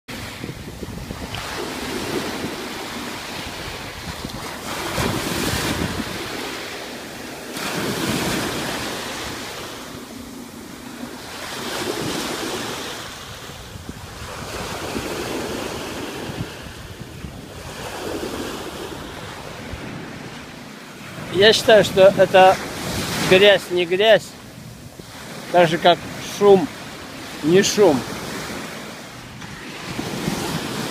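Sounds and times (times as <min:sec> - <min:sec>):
ocean surf washing onto beach: 0:00.1 - 0:30.9
wind buffeting microphone: 0:00.1 - 0:30.9.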